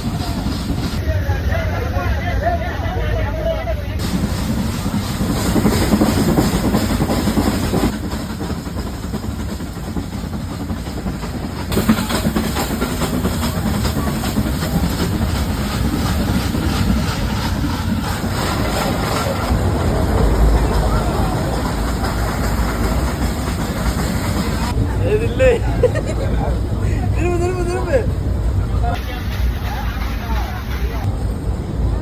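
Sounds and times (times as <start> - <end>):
train rumble: 0.0 - 32.0
wheels clattering over rails: 4.0 - 32.0.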